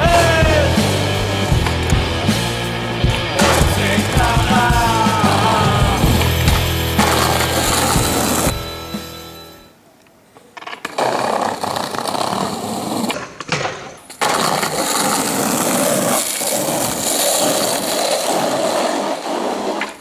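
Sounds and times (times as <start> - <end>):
skateboard wheels rolling on pavement: 0.0 - 9.6, 10.2 - 20.0.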